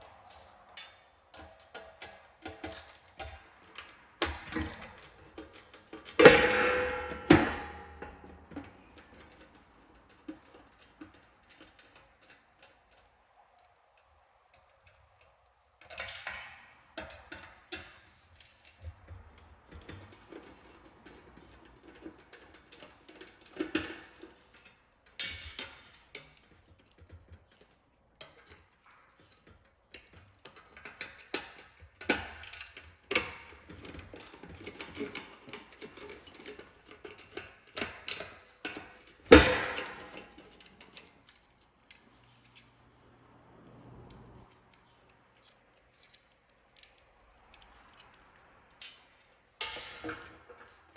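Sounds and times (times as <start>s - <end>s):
small parts and tools clicking: 0.0s - 6.2s, 7.8s - 43.0s, 43.7s - 50.9s.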